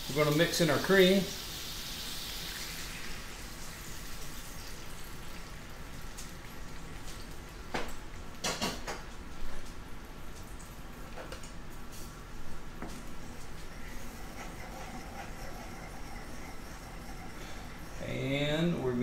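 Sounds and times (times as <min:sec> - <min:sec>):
skillet sizzling and crackling: 0:00.0 - 0:18.2.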